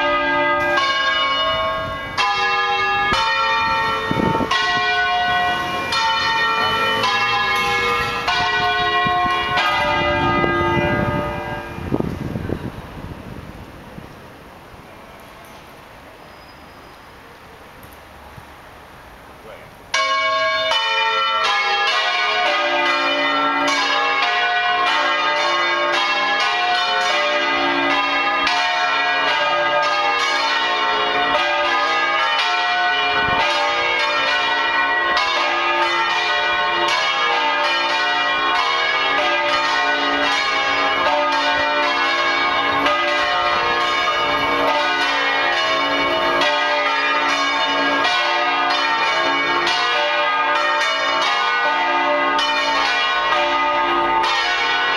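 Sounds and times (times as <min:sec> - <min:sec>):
church bells ringing: 0:00.0 - 0:13.2, 0:19.8 - 0:54.9.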